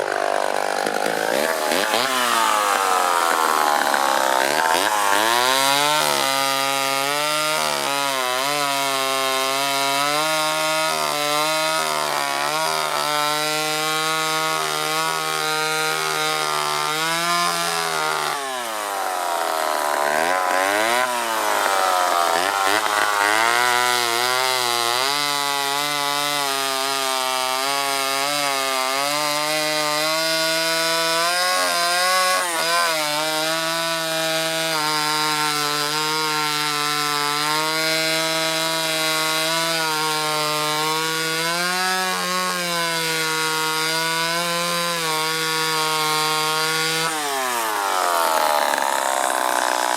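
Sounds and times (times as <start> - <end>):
chainsaw cutting a log: 0.0 - 49.9.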